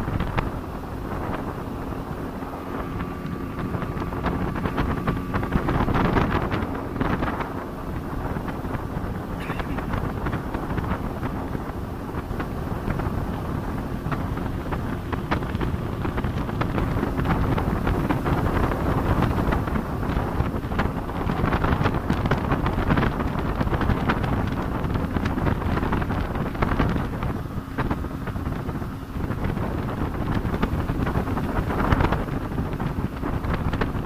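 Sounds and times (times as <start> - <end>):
boat engine droning: 0.0 - 34.0
water slapping against hull: 0.0 - 34.0
wind buffeting microphone: 0.0 - 34.0.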